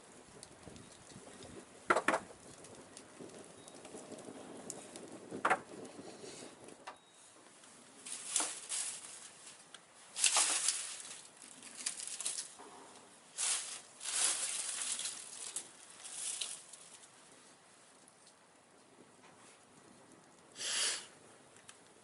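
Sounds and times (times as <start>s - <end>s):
dry leaves and twigs crackling: 0.0s - 18.5s.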